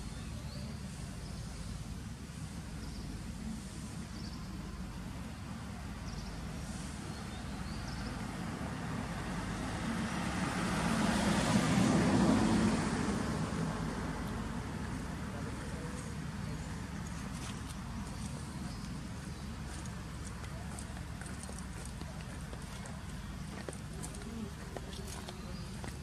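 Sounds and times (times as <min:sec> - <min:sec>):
road vehicle passing by: 0:00.0 - 0:26.0.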